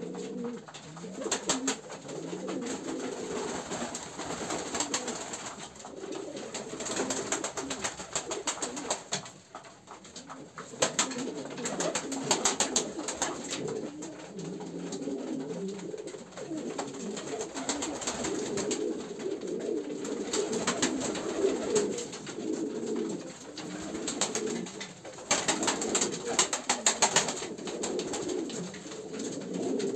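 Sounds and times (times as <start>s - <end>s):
pigeons cooing: 0.0s - 29.9s
wings flapping: 0.2s - 29.9s.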